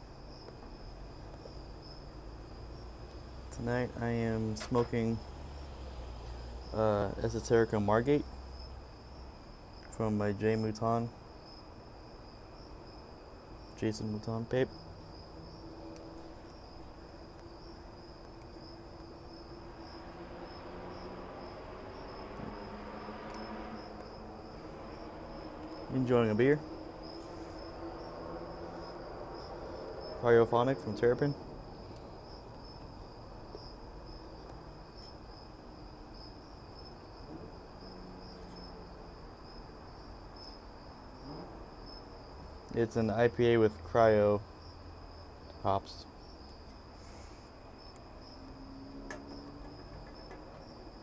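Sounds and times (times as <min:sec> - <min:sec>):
crickets trilling: 0:00.0 - 0:51.0.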